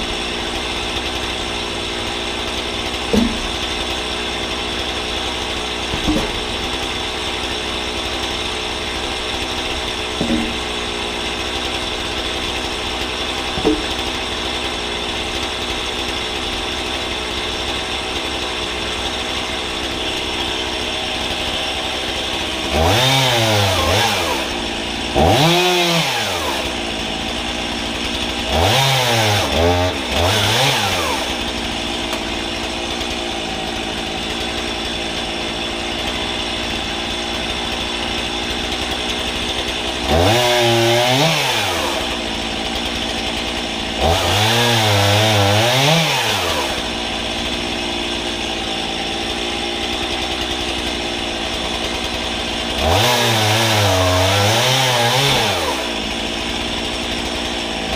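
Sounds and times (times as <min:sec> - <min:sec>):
chainsaw idling and revving: 0:00.0 - 0:57.9.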